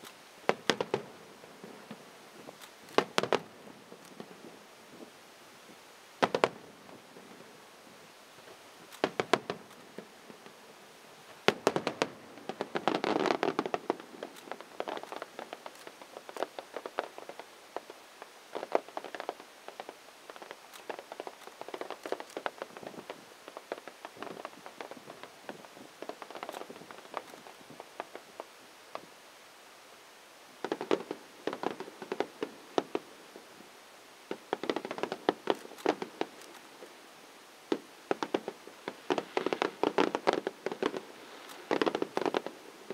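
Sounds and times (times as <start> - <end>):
fireworks popping and crackling: 0.0 - 29.2, 30.4 - 42.9.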